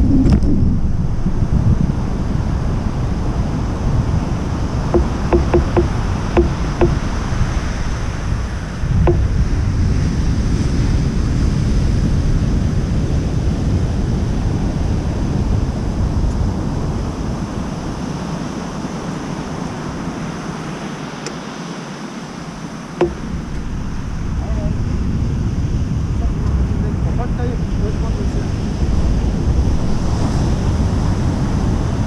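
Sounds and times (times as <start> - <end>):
wind buffeting microphone: 0.0 - 21.5, 22.2 - 32.0.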